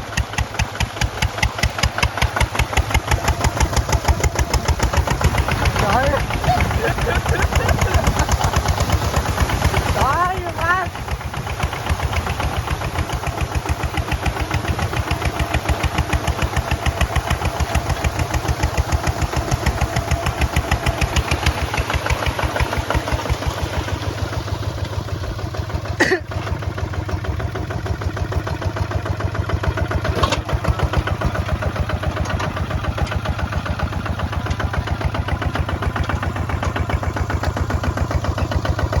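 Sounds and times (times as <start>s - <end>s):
diesel engine knocking: 0.0s - 39.0s.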